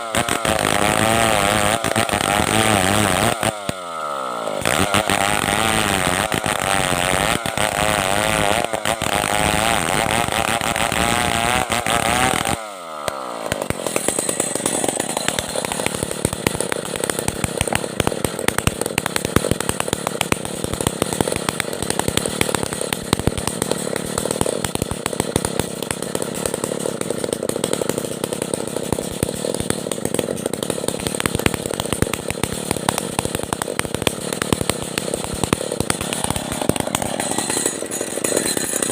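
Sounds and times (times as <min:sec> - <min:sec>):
chainsaw sawing a log: 0:00.0 - 0:38.9.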